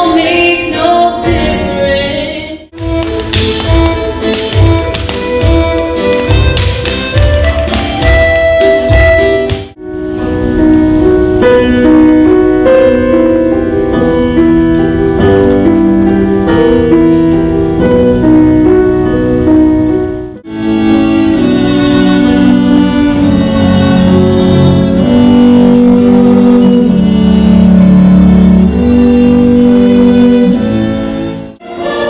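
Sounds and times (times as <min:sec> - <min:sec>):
piano and bowed strings: 0:00.0 - 0:32.0
small ensemble playing: 0:00.0 - 0:32.0.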